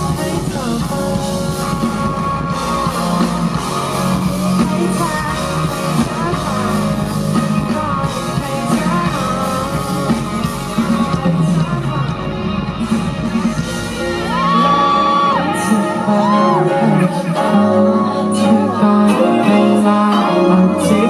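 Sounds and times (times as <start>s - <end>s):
live rock band playing: 0.0s - 21.0s
person singing: 0.0s - 21.0s.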